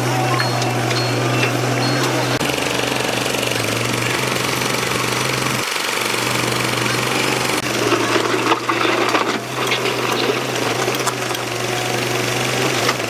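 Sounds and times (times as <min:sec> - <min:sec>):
digging clanks and knocks: 0:00.0 - 0:13.0
excavator diesel engine running: 0:00.0 - 0:13.0.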